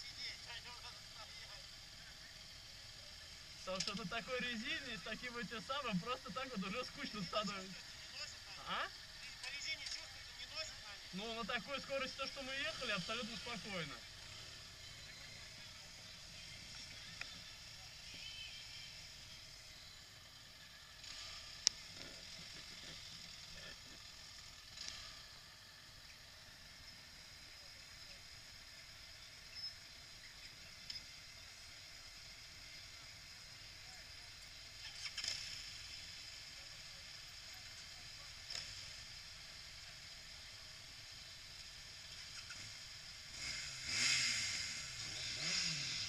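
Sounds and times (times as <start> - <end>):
motorcycle road noise: 0.0 - 46.0.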